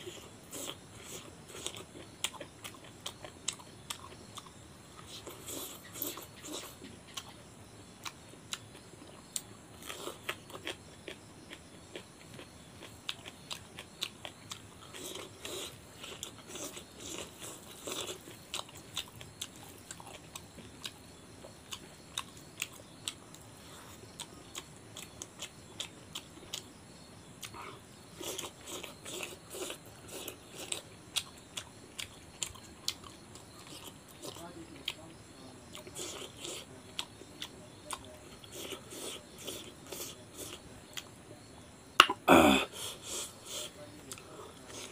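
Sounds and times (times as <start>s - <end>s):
person chewing food: 0.0s - 26.8s, 27.4s - 35.0s, 35.7s - 41.1s, 42.0s - 44.9s.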